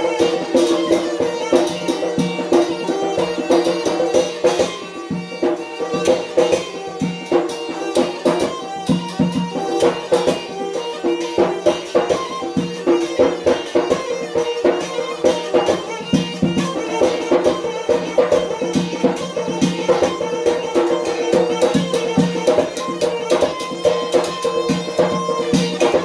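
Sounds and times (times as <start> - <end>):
reed pipe melody: 0.0 - 26.0
fast drum beat: 0.1 - 26.0.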